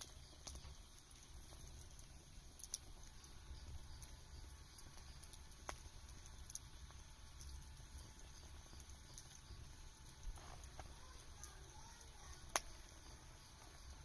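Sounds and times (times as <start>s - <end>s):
firewood crackling: 0.0s - 14.0s
low steady rumble: 0.0s - 14.0s
sharp pops of fire: 0.0s - 14.0s.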